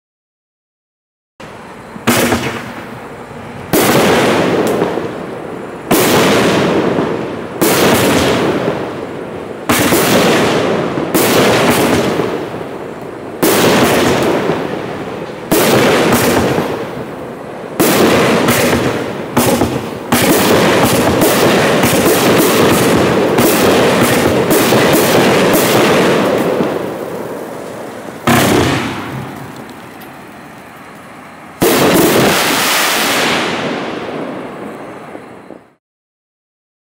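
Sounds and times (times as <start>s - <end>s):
firework shots banging and hissing: 1.4s - 35.8s.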